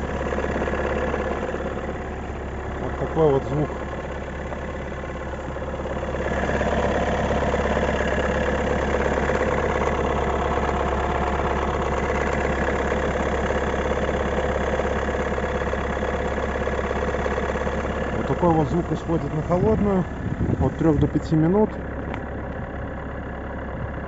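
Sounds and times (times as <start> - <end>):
diesel engine running: 0.0 - 24.0
extraneous engine noise: 0.0 - 24.0.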